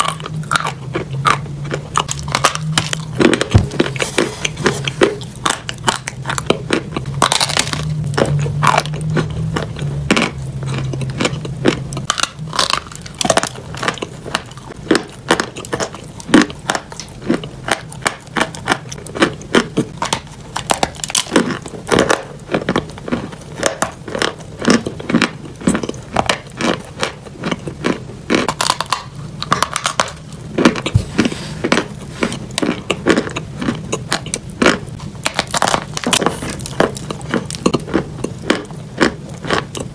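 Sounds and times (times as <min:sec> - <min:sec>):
chewing crunchy chalk: 0:00.0 - 0:39.9.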